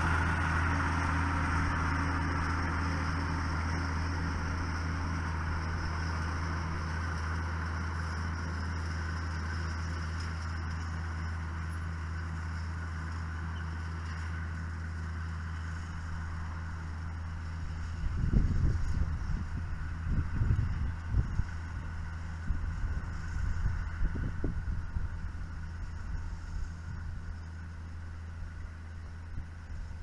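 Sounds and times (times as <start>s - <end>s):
tractor engine droning: 0.0s - 30.0s.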